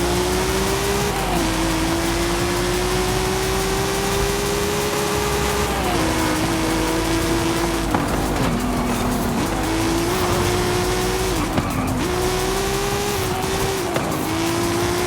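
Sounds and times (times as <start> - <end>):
car engine accelerating: 0.0 - 15.0
tyre and road noise: 0.0 - 15.0.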